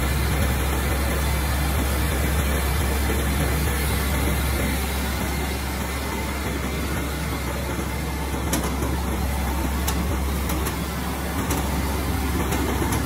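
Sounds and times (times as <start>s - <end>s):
rice mill mechanical drone: 0.0s - 13.0s.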